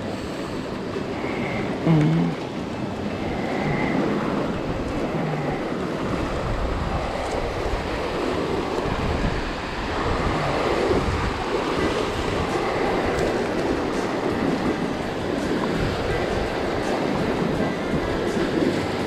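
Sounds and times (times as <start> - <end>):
wind buffeting microphone: 0.0 - 19.0
small waves washing over pebbles: 2.8 - 19.0.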